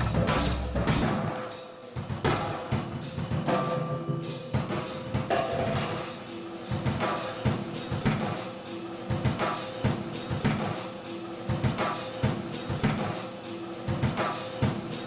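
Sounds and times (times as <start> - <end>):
instrumental music with drum beat: 0.0 - 15.0.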